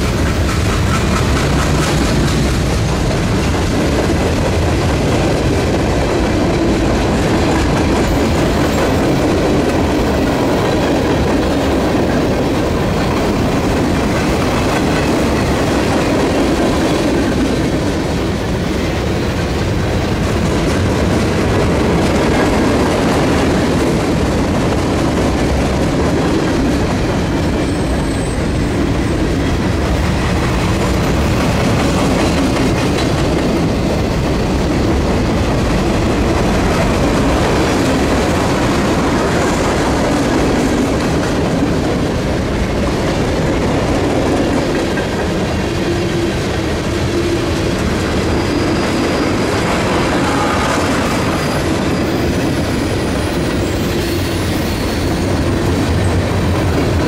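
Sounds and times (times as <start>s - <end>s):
steel wheels clicking over rail joints: 0.0s - 50.4s
freight train rumble: 0.0s - 57.0s.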